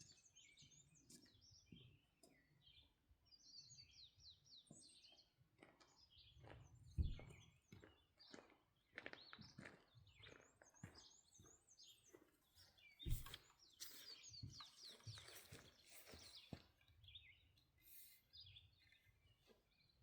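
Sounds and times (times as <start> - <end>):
songbird chirps and trills: 0.0 - 20.0.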